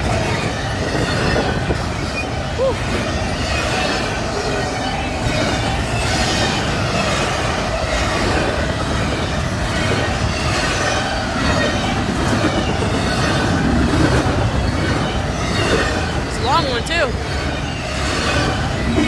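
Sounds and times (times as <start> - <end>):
faint wheel squeal: 0.0 - 16.4
train wheels rumbling on rails: 0.0 - 19.0.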